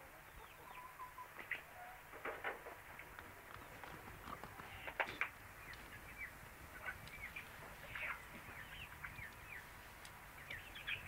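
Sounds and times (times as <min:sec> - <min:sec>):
small birds chirping: 0:00.0 - 0:02.0, 0:03.0 - 0:11.0.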